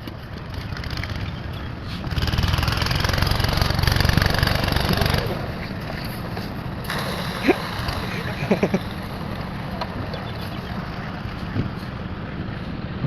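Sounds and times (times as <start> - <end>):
small engine running: 0.3 - 12.6.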